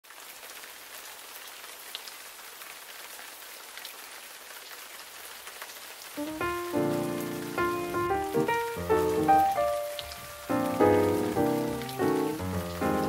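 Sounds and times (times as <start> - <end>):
raindrops pattering: 0.0 - 13.0
steady rain falling: 0.0 - 13.0.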